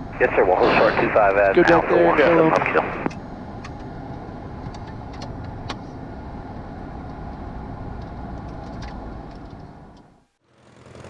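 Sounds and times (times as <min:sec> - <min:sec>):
jet cockpit rumble: 0:00.0 - 0:10.4.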